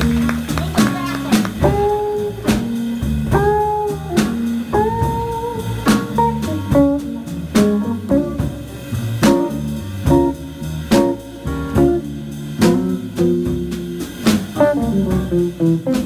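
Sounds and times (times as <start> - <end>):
jazz band playing: 0.0 - 16.0.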